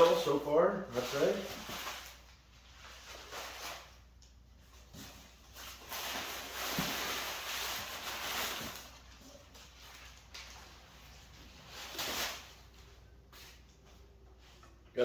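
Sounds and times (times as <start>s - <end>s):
packing paper rustling: 0.0s - 13.6s.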